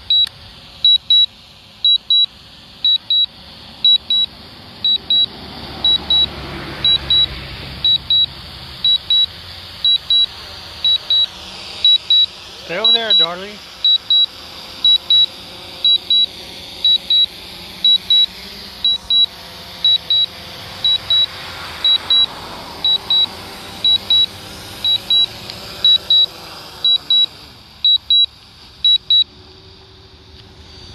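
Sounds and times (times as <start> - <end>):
short high warning beeps: 0.0 - 25.3, 25.9 - 26.3, 26.9 - 29.3
drone propellers humming: 0.0 - 30.9.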